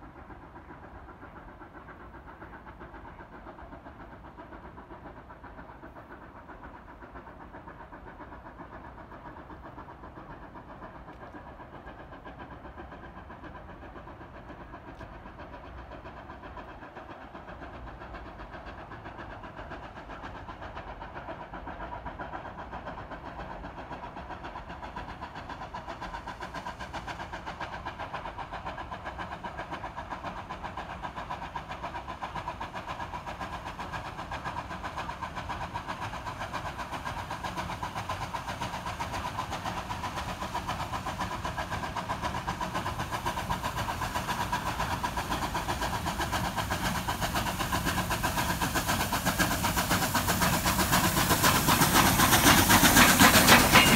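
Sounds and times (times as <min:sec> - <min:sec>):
distant steam locomotive: 0:00.0 - 0:53.9.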